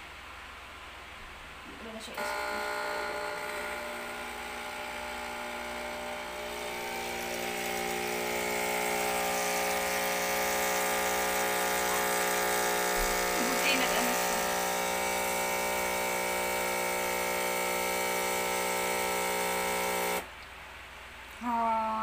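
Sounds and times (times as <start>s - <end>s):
espresso machine pump buzzing: 2.1s - 20.3s.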